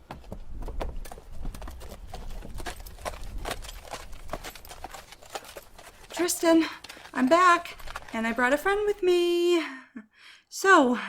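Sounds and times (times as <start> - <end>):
horse hooves clip-clopping: 0.0 - 9.2.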